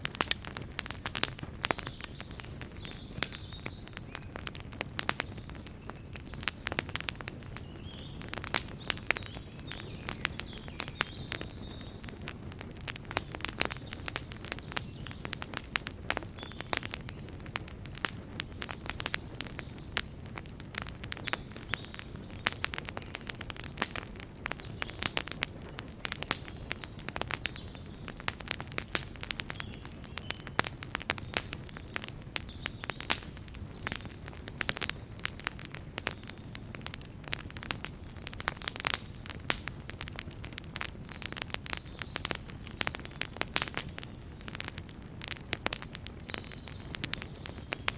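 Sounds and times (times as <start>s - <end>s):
campfire crackling and popping: 0.0s - 47.9s
low rumble of flames: 0.0s - 47.9s.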